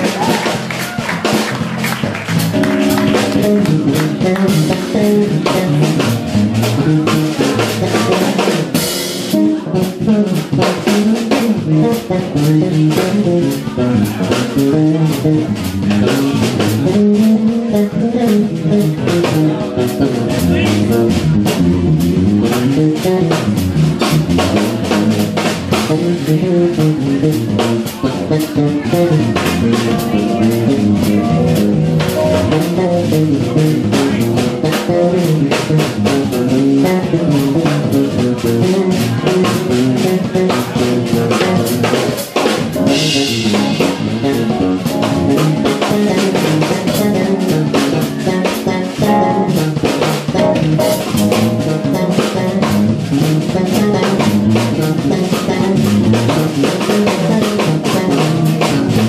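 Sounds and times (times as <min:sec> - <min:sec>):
jazz fusion band playing: 0:00.0 - 0:59.0.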